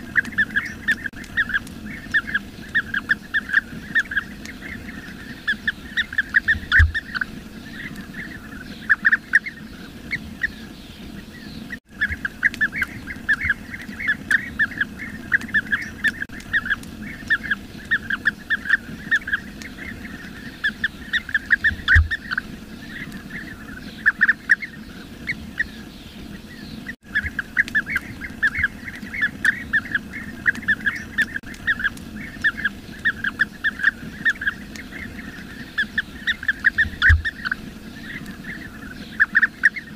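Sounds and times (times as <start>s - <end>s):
birds calling rolling chirps: 0.0s - 39.9s.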